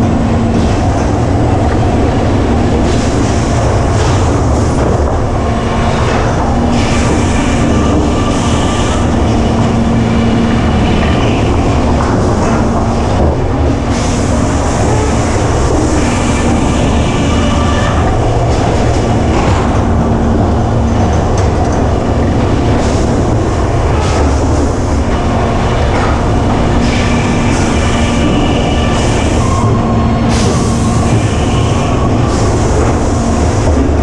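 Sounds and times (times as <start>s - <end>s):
rail wheels rattling: 0.0s - 34.0s
sawmill machinery running: 0.0s - 34.0s.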